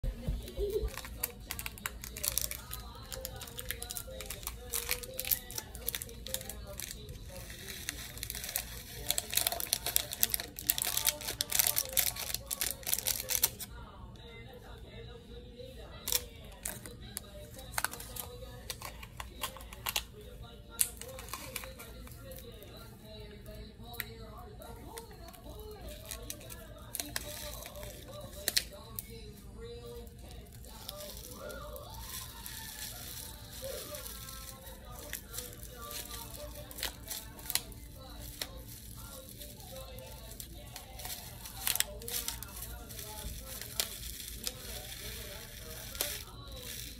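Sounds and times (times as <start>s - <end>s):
faint background music: 0.0s - 46.9s
faint background voices: 0.0s - 46.9s
plastic packet crinkling: 0.3s - 13.7s, 16.0s - 24.1s, 24.8s - 46.9s.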